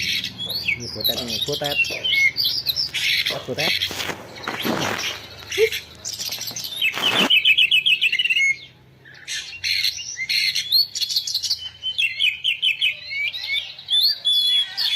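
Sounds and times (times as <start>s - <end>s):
small birds chirping through phone speaker: 0.0s - 14.9s.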